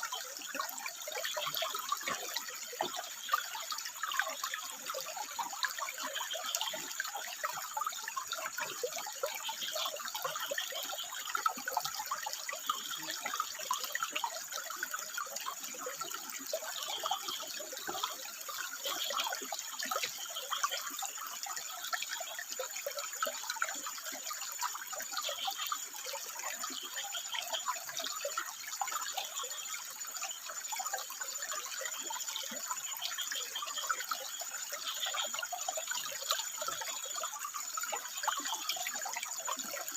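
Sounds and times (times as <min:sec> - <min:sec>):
frogs calling: 0:00.0 - 0:39.9
water trickling over rock: 0:00.0 - 0:39.9.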